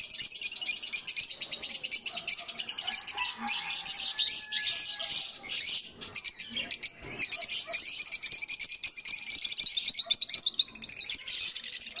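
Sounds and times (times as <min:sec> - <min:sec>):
lovebirds chattering: 0:00.0 - 0:12.0.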